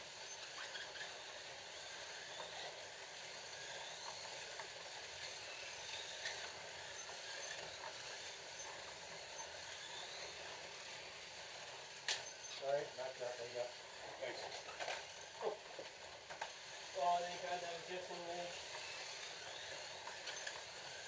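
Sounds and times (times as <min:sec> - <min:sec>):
slot car electric motors whirring: 0:00.0 - 0:21.0.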